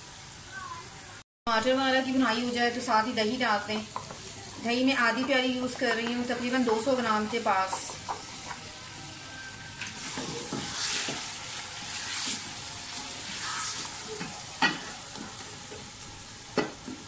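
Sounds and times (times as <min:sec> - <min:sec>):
meat sizzling: 0:00.0 - 0:17.0.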